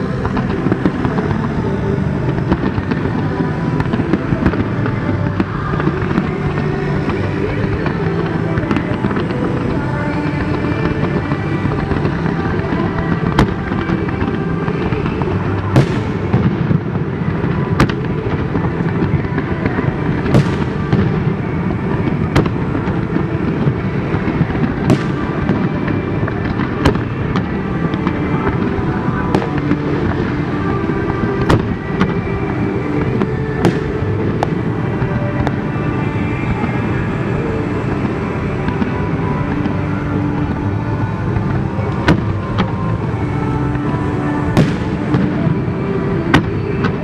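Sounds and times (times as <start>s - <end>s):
fireworks bursting with bangs: 0.0s - 47.0s
fireworks crackling: 0.0s - 47.0s
low background rumble: 0.0s - 47.0s.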